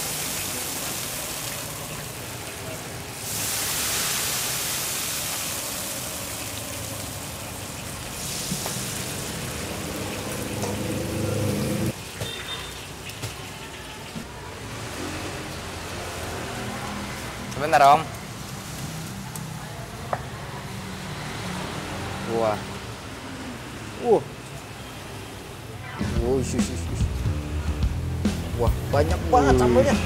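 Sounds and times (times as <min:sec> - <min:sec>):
hot oil sizzling: 0:00.0 - 0:25.9.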